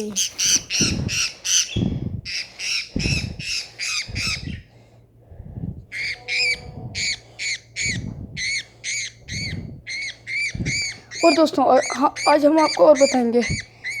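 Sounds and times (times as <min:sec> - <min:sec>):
parrot squawking: 0:00.0 - 0:04.7, 0:05.9 - 0:14.0.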